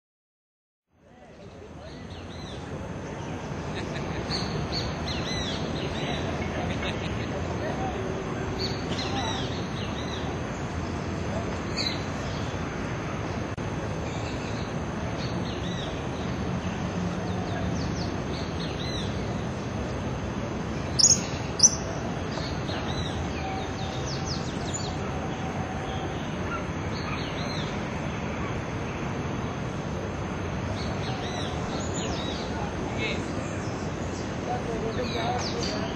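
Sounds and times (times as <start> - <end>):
outdoor background noise: 0.9 - 35.9
birds chirping: 1.6 - 35.9.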